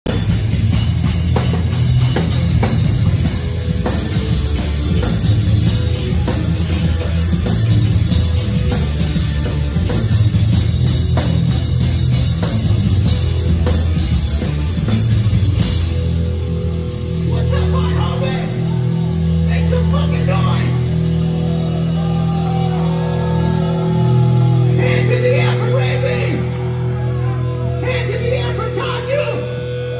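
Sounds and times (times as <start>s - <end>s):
pounding drum kit: 0.0s - 27.0s
heavy guitars and bass: 0.0s - 29.9s.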